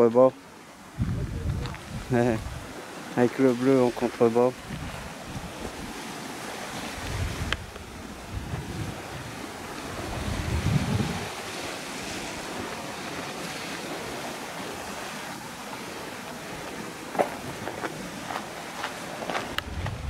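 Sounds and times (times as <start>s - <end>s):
sea surf: 0.0s - 20.0s
wind: 0.0s - 20.0s
wind buffeting microphone: 0.9s - 3.2s, 4.5s - 20.0s.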